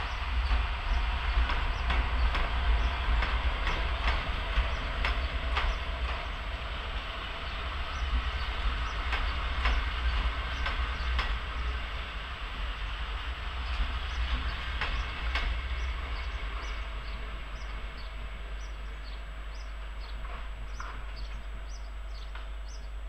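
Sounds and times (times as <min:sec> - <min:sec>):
rolling hiss: 0:00.0 - 0:21.6
train wheels clicking over track: 0:00.0 - 0:23.0.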